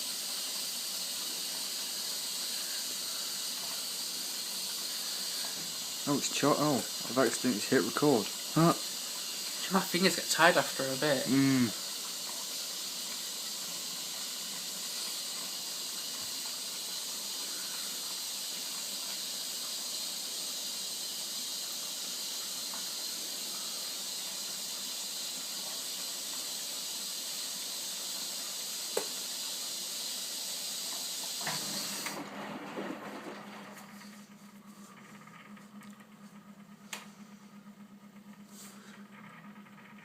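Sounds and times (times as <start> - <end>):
water filling hiss: 0.0 - 35.7
washing machine low hum: 0.0 - 40.0.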